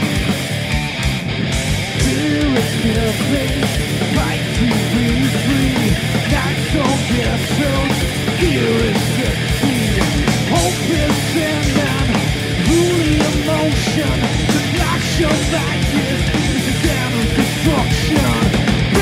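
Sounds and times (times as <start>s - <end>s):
drum kit beat: 0.0s - 19.0s
electric guitar melody: 0.0s - 19.0s
live rock band playing: 0.0s - 19.0s.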